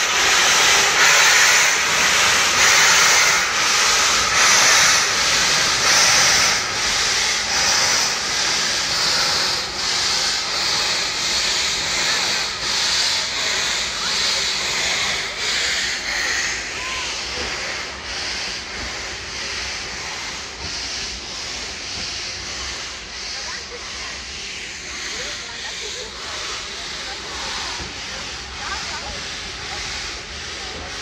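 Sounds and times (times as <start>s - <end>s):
steam hissing: 0.0s - 31.0s
steam locomotive exhaust chuffs: 0.0s - 31.0s.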